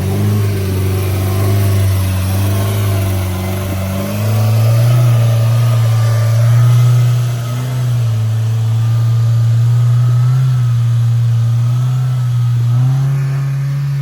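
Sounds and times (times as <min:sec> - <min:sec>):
engine running at low revs: 0:00.0 - 0:14.0.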